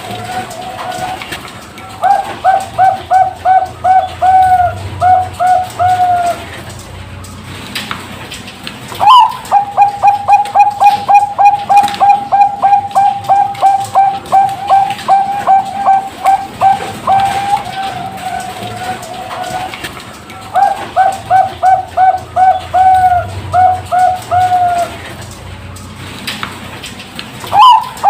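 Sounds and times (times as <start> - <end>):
dove cooing: 0.0 - 6.8, 9.0 - 25.3, 27.4 - 28.0.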